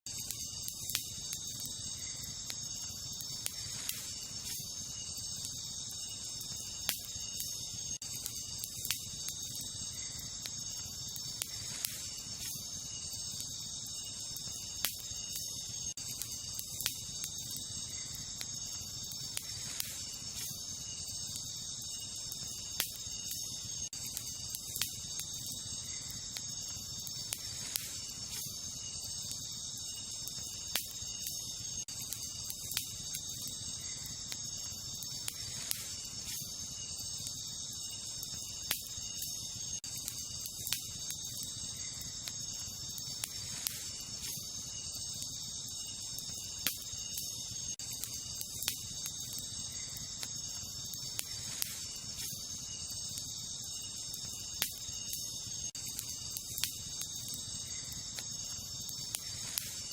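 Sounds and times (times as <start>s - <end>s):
crickets chirping: 0.0s - 59.9s
campfire crackling and popping: 0.1s - 59.9s.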